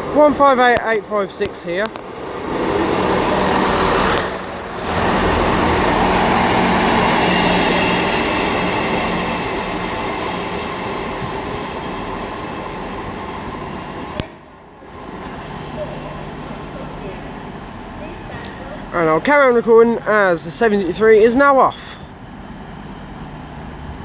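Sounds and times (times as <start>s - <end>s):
diesel train engines droning: 0.0s - 24.0s
wheels rumbling on rail: 0.0s - 24.0s.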